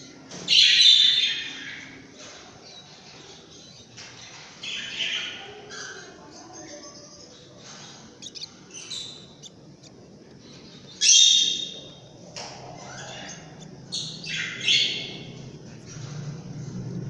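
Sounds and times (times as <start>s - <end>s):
bird chicks squawking: 0.0s - 17.0s.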